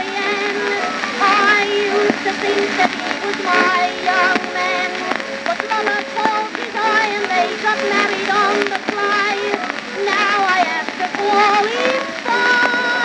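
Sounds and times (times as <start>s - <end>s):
record crackle and hiss: 0.0s - 13.0s
soprano singing with orchestra: 0.0s - 13.0s.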